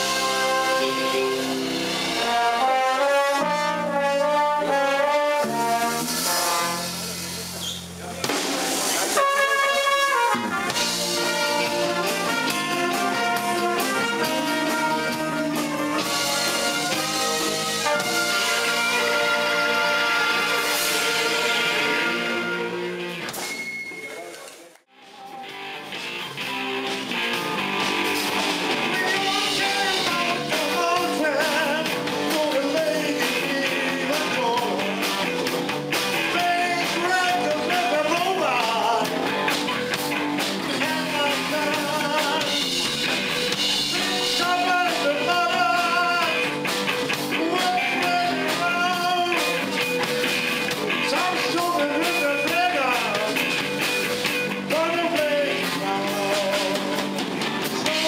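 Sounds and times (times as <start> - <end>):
live band with horn section: 0.0 - 23.3, 25.1 - 58.0.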